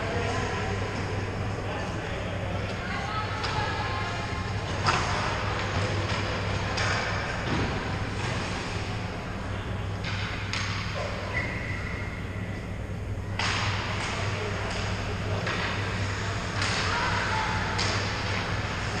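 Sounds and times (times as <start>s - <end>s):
faint echoing voices: 0.0s - 19.0s
steady low hum: 0.0s - 19.0s.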